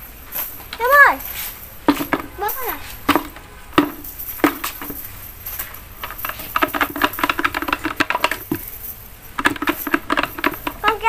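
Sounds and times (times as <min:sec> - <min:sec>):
net sinkers clattering on concrete: 0:00.3 - 0:11.0.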